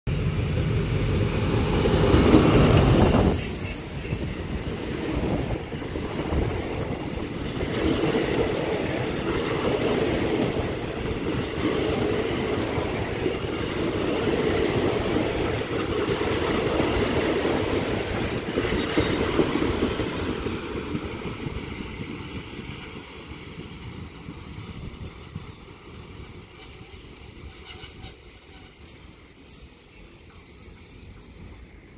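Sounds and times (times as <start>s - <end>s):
diesel locomotive engine: 0.1s - 31.9s
train wheels rumbling on rail: 0.1s - 31.9s
high steady squeal: 0.4s - 31.9s.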